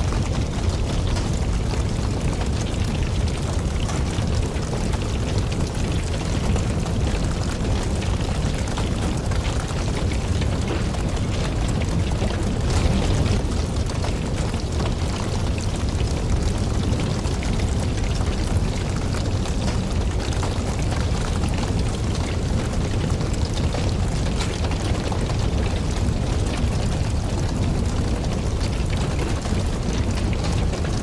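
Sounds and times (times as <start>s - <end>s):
campfire flames rumbling: 0.0s - 31.0s
crackles and pops of burning logs: 0.0s - 31.0s.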